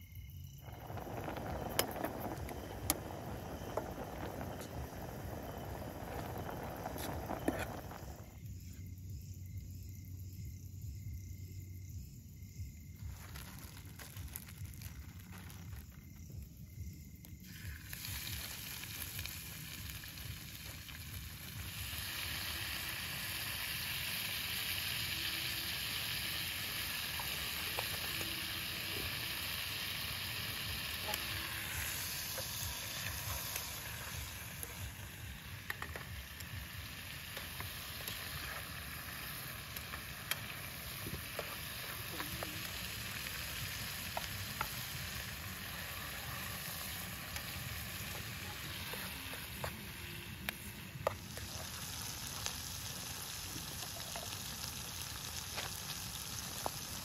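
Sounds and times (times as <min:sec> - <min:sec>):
sizzling on gas stove: 0:00.0 - 0:08.9, 0:12.8 - 0:57.0.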